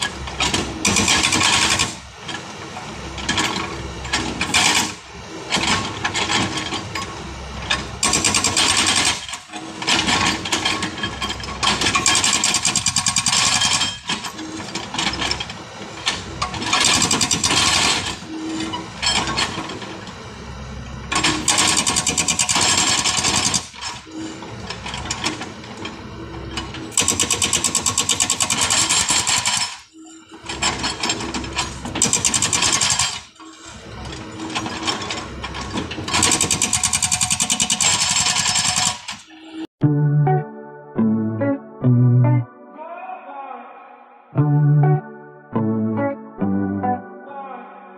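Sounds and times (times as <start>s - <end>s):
hydraulic breaker hammering rock: 0.0s - 20.1s, 21.1s - 39.5s
excavator engine and hydraulics: 0.0s - 40.4s.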